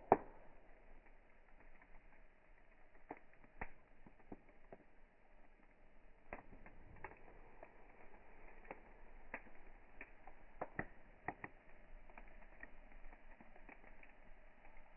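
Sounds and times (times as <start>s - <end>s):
campfire crackling and popping: 0.0s - 14.9s.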